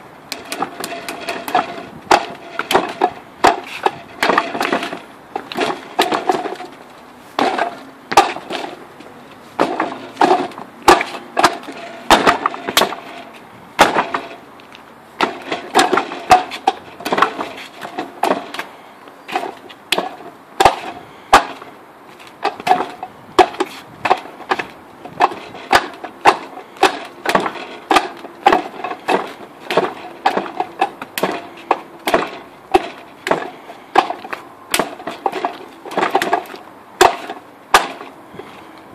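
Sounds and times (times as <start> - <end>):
hard wooden knocks and clacks: 0.3 - 6.8, 7.4 - 8.8, 9.6 - 14.4, 15.2 - 18.7, 19.3 - 21.7, 22.4 - 38.2.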